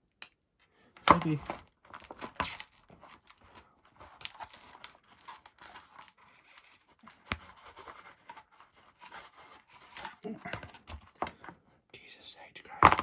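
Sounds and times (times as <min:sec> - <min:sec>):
tools rustling and scraping: 0:01.2 - 0:11.6.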